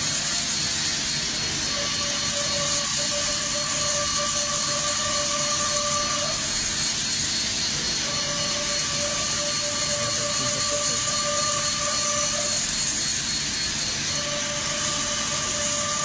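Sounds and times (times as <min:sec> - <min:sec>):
lathe running noise: 0:00.0 - 0:16.0
steady machine whine: 0:00.0 - 0:16.0.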